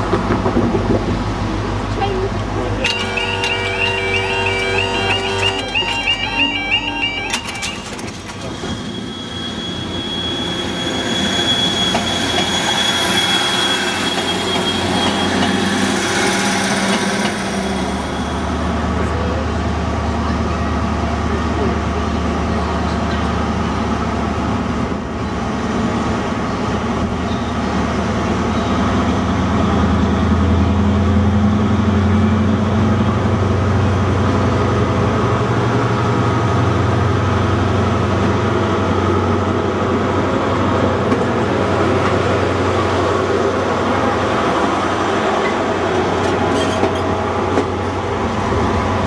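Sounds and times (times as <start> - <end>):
train diesel engine passing: 0.0 - 49.0.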